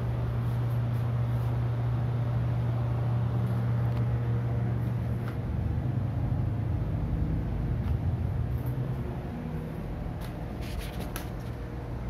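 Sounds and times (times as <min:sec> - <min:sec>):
exhaust fan running: 0:00.0 - 0:12.0.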